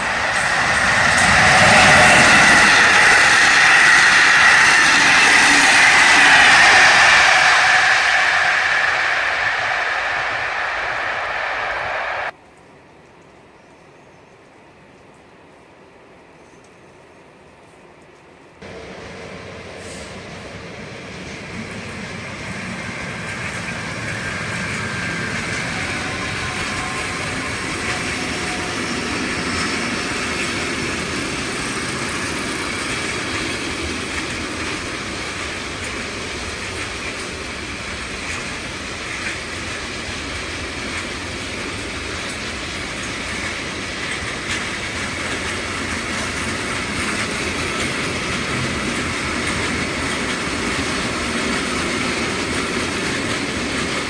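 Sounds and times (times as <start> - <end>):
freight train rolling past: 0.0 - 12.4, 18.6 - 54.0.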